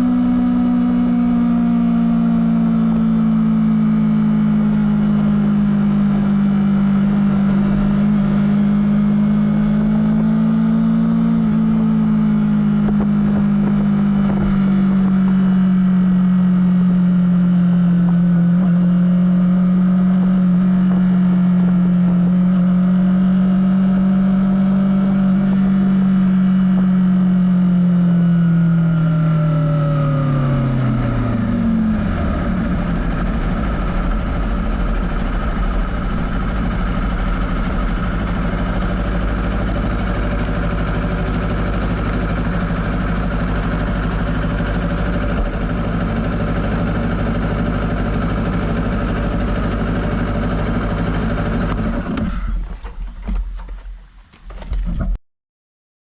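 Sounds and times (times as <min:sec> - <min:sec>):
motorcycle engine running: 0:00.0 - 0:55.2.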